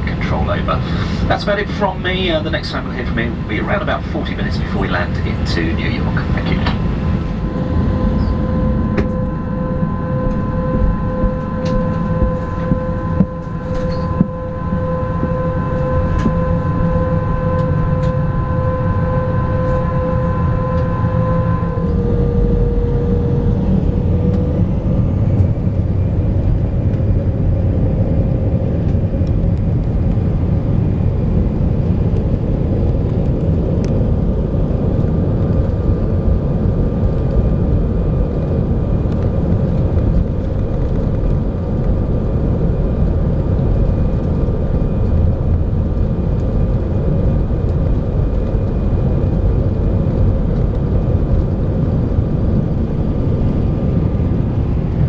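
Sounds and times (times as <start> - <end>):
faint steady whining tones: 0.0 - 55.0
jet engines rumbling: 0.0 - 55.0.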